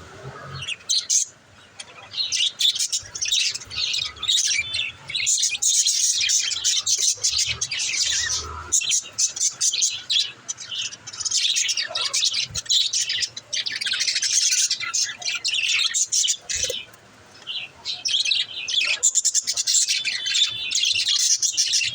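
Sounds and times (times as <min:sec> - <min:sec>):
budgerigars chirping: 0:00.5 - 0:21.9.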